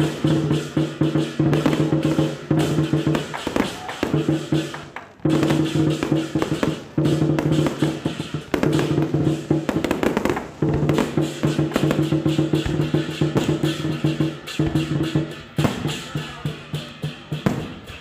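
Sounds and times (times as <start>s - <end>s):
festival music: 0.0s - 18.0s
firecrackers cracking: 0.0s - 18.0s.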